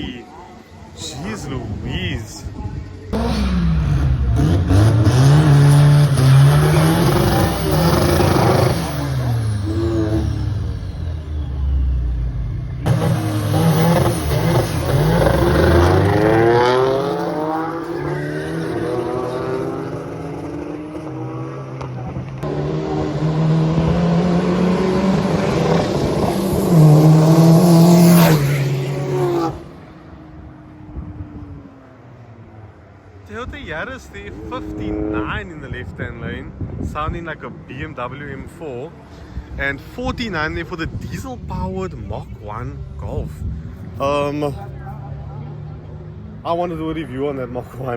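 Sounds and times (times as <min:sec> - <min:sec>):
drag racing engines revving: 0:02.8 - 0:31.6, 0:33.4 - 0:47.9.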